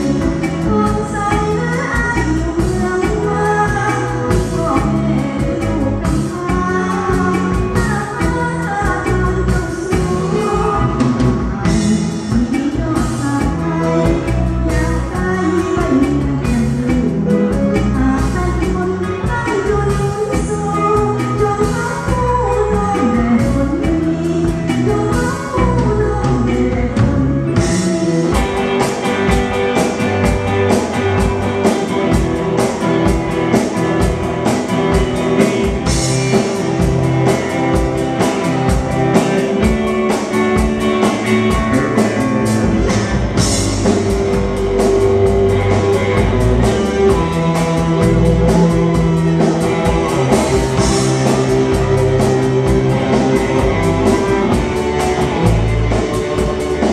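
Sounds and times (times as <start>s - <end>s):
bass guitar: 0.0s - 56.9s
drum kit beat: 0.0s - 56.9s
electric guitar: 0.0s - 56.9s.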